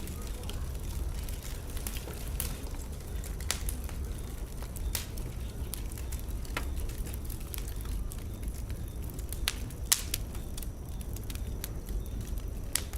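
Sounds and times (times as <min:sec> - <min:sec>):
fire crackling and popping: 0:00.0 - 0:12.9
low rumble of flames: 0:00.0 - 0:12.9.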